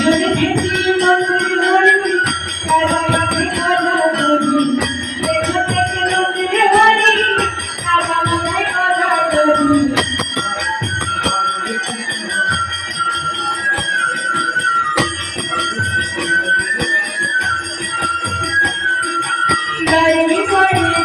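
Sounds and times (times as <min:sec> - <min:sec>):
flute melody: 0:00.0 - 0:21.0
small hand cymbals jingling: 0:00.0 - 0:21.0.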